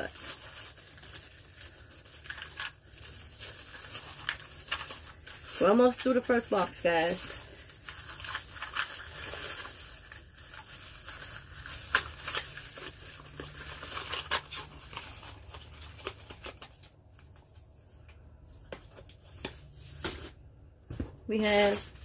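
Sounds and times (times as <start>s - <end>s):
packaging rustling and crinkling: 0.0s - 22.0s.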